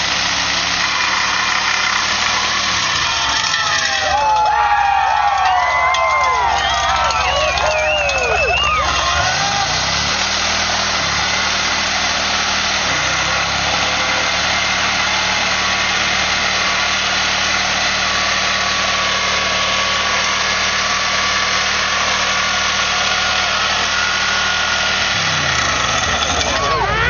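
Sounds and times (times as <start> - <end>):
car engine revving high: 0.0 - 4.4, 6.2 - 27.0
spinning tyres rushing: 0.0 - 27.0.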